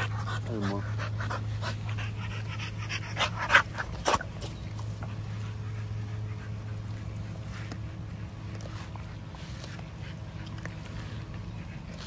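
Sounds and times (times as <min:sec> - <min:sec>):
puppy chewing and crunching: 0:00.0 - 0:12.0
steady low hum: 0:00.0 - 0:12.0.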